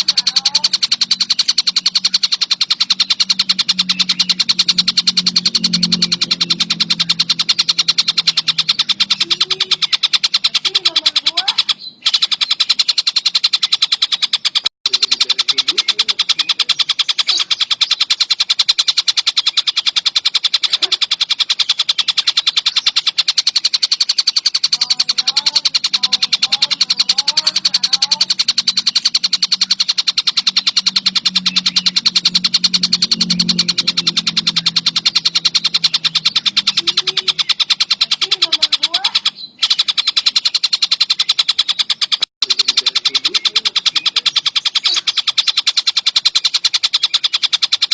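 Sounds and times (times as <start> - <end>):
kingfisher rapid chatter: 0.0 - 47.9.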